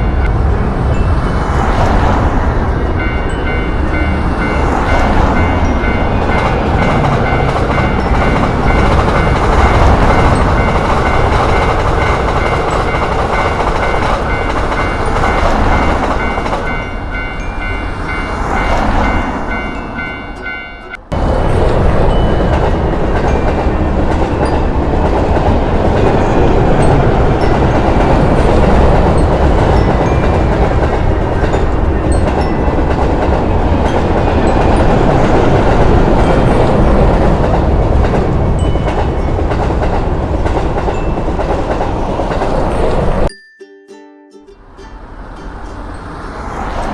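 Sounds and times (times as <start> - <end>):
train rumbling on track: 0.0 - 43.3, 44.6 - 46.9.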